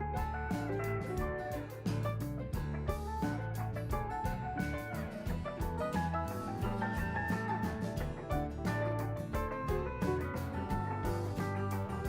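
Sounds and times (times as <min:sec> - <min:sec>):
drums with steady beat: 0:00.0 - 0:12.0
plucked guitar notes: 0:00.0 - 0:12.0.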